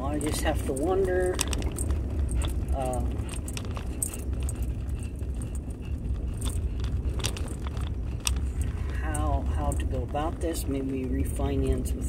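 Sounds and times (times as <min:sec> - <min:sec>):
light clicks and rattles: 0:00.0 - 0:12.0
road and engine rumble: 0:00.0 - 0:12.0.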